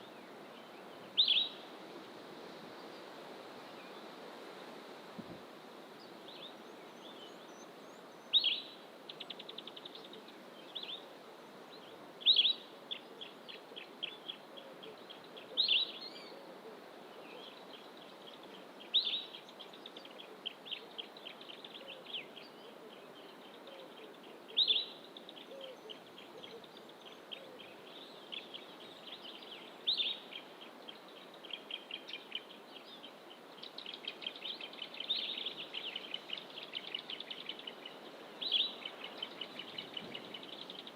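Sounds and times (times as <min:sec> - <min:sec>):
outdoor background hiss: 0:00.0 - 0:40.9.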